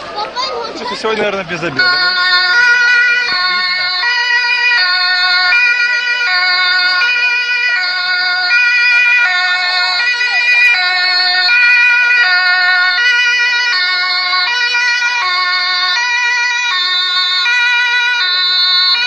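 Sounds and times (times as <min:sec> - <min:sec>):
two-tone police siren: 0:01.7 - 0:19.0.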